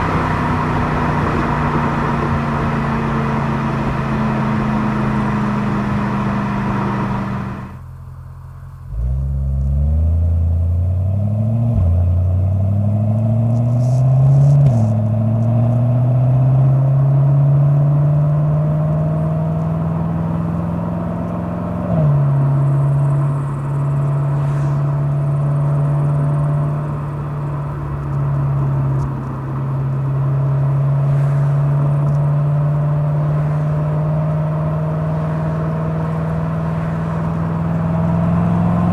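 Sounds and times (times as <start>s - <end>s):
car engine accelerating through gears: 0.0s - 8.0s, 8.7s - 38.9s.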